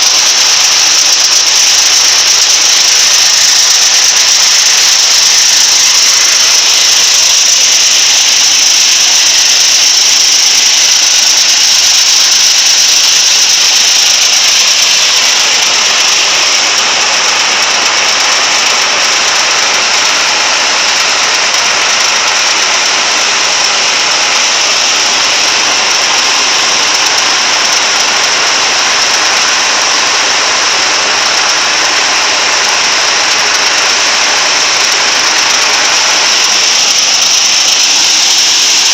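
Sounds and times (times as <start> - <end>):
high whine: 0.0 - 38.9
threshing machine engine running: 0.0 - 38.9.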